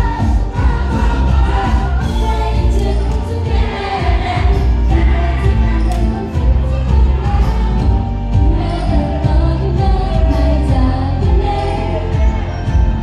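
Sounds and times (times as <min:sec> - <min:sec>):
pop song over sound system: 0:00.0 - 0:13.0.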